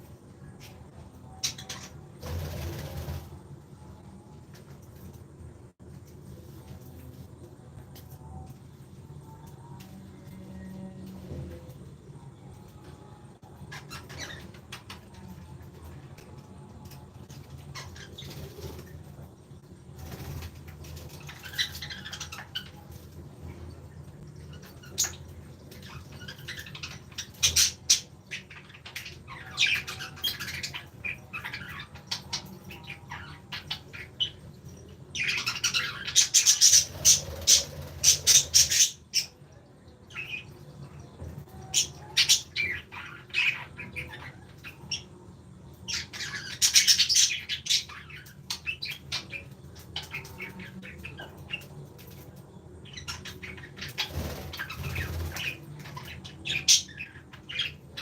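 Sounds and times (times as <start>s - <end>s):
cage birds chirping and squawking: 0.0s - 5.7s, 6.8s - 58.0s.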